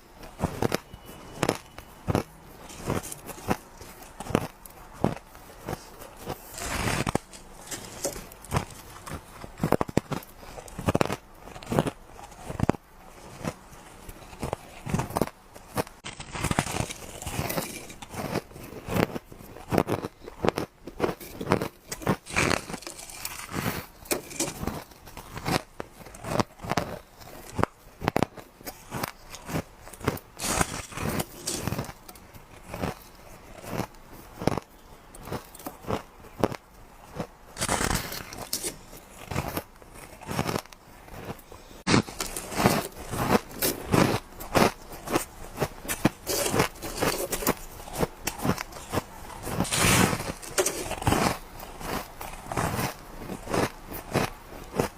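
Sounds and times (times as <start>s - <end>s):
teeth crunching ice: 0.1s - 54.9s.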